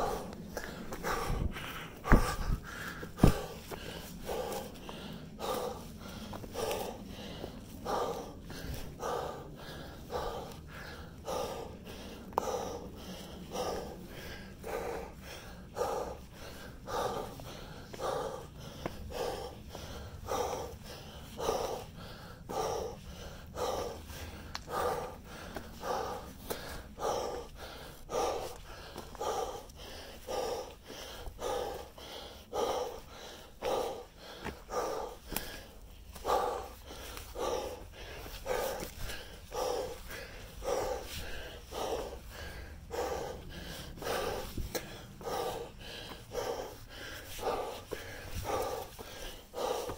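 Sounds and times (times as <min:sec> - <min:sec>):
person breathing hard: 0:00.0 - 0:49.9.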